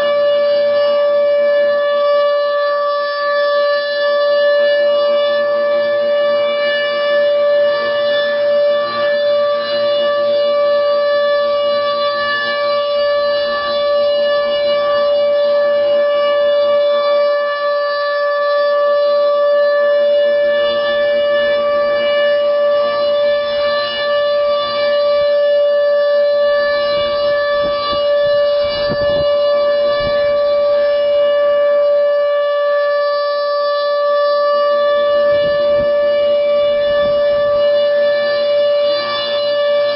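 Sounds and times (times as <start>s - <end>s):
tornado siren steady tone: 0.0s - 39.9s.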